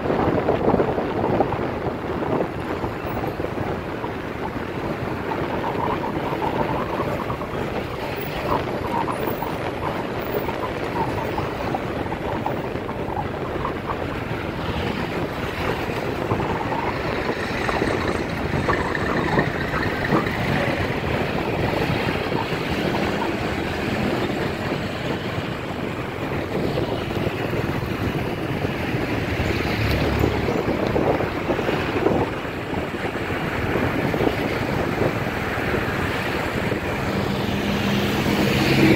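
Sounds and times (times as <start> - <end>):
road and traffic noise: 0.0 - 38.9
wind rushing over microphone: 0.0 - 38.9.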